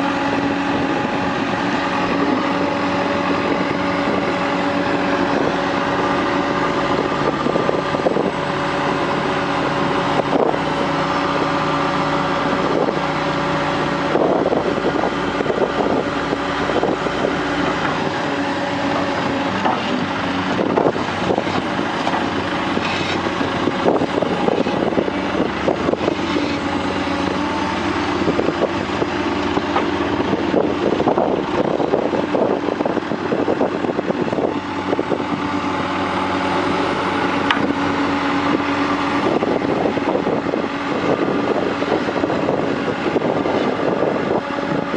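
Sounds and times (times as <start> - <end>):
heavy machinery engine running: 0.0 - 44.9.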